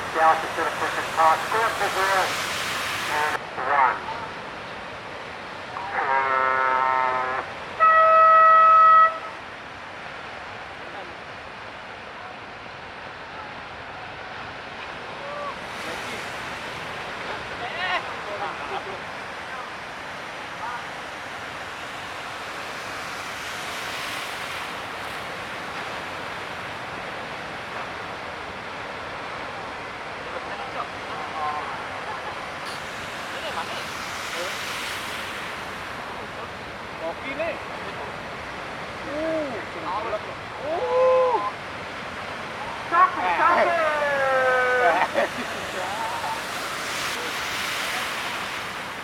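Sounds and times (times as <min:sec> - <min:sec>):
ocean waves breaking: 0:00.0 - 0:49.0
surf: 0:00.0 - 0:49.0
wind: 0:00.0 - 0:49.0.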